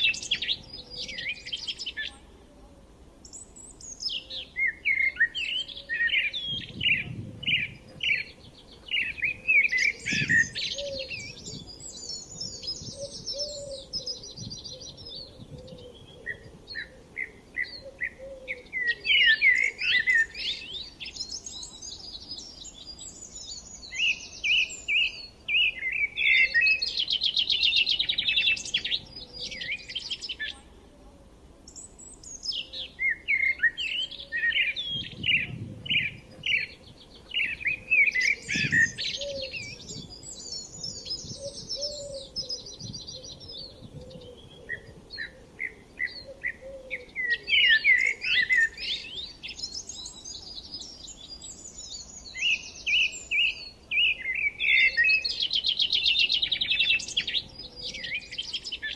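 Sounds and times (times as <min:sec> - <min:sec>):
songbirds singing and chirping: 0:00.0 - 0:58.9.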